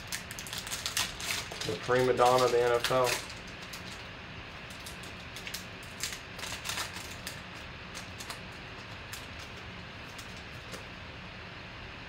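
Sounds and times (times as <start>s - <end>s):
foil wrapper crinkling: 0.0s - 10.9s
steady low hum: 0.0s - 12.0s.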